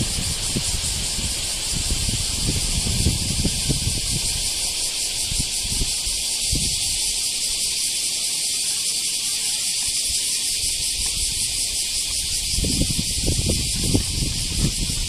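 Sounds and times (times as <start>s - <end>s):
wind buffeting microphone: 0.0s - 7.2s, 10.0s - 15.0s
high hiss of outdoor ambience: 0.0s - 15.0s.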